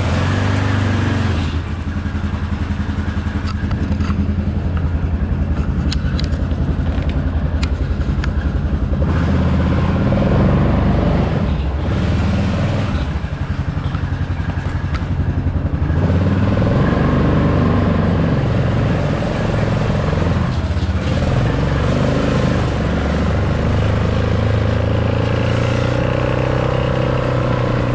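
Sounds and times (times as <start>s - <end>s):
quad engine idling and revving: 0.0s - 27.9s.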